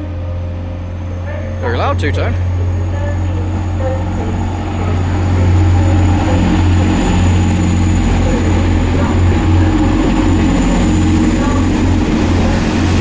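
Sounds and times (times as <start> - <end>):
train diesel engines throbbing: 0.0 - 13.0.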